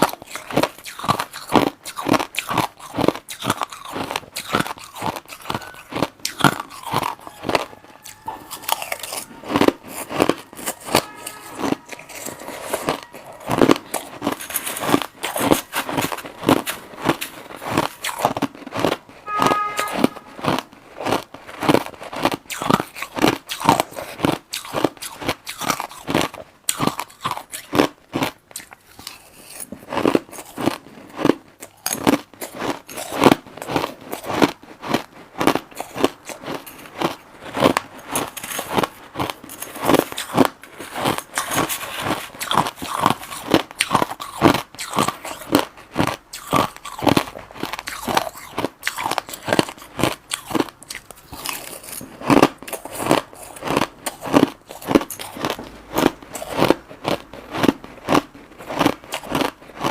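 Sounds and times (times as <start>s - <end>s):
crushed ice being chewed: 0.0s - 59.9s.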